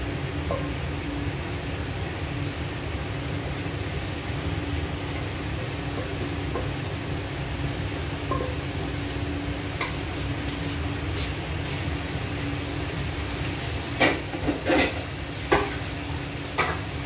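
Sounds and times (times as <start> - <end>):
range hood fan humming: 0.0 - 17.0.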